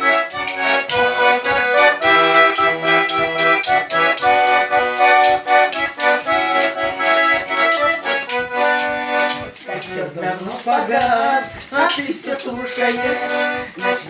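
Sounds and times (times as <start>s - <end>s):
accordion playing chords: 0.0s - 14.0s.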